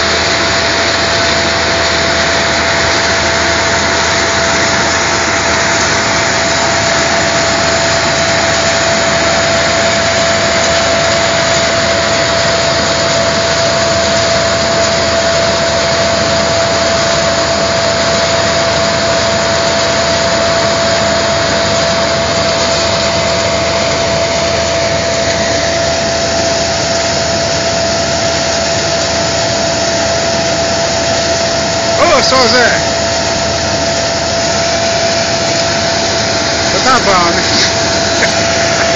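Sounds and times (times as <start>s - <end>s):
machine running with high whine: 0.0s - 38.9s.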